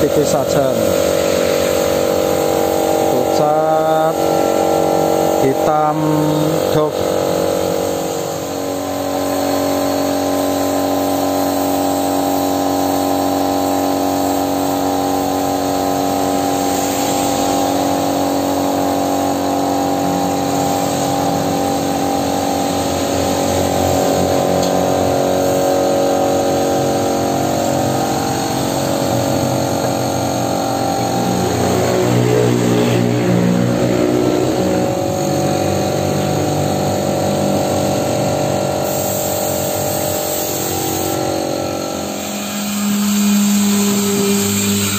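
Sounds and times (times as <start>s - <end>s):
air compressor humming: 0.0s - 44.9s.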